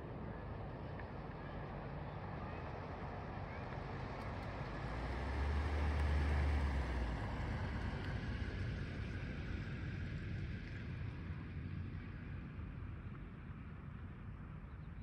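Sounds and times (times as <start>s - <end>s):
distant jet rumble overhead: 0.0s - 15.0s.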